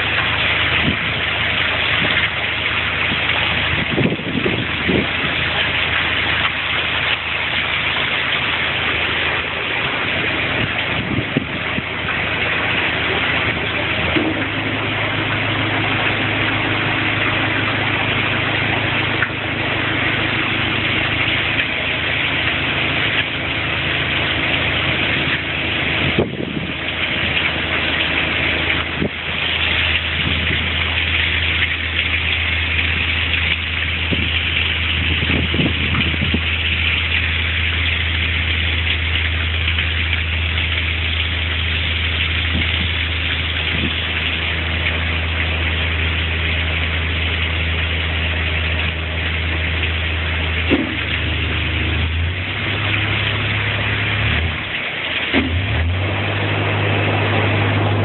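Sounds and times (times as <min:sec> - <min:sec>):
boat engine idling: 0:00.0 - 0:58.0.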